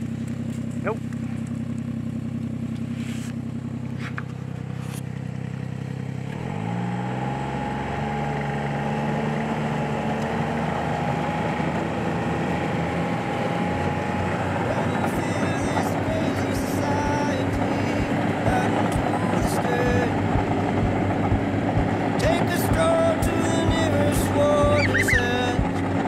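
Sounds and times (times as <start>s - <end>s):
snowmobile engine: 0.0s - 26.0s
track rushing on snow: 2.8s - 5.1s, 5.8s - 26.0s.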